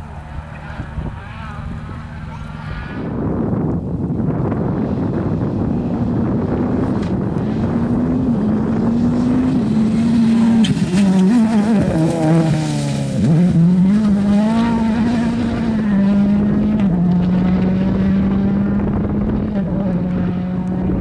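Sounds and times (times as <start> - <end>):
rally car engine at hard throttle: 0.0 - 21.0.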